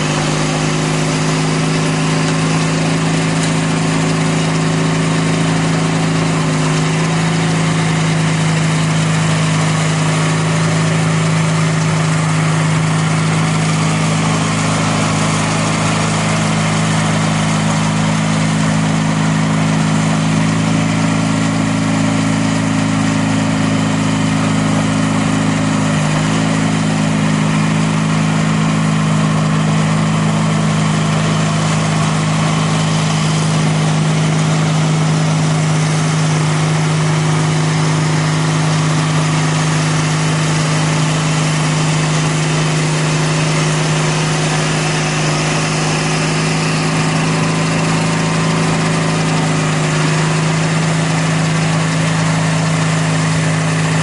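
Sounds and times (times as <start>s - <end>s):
garden tractor engine running: 0.0s - 54.0s
snowblower throwing snow: 0.0s - 54.0s.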